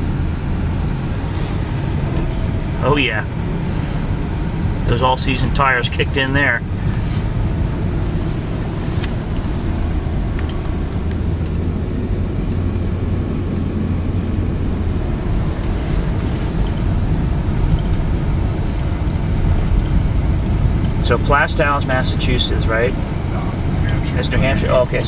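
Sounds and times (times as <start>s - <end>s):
car engine and tyres droning: 0.0s - 25.0s.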